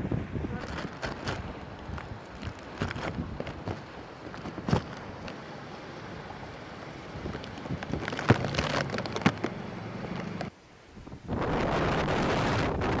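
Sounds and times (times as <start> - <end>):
strong wind gusting with rain: 0.0 - 9.5, 10.1 - 13.0.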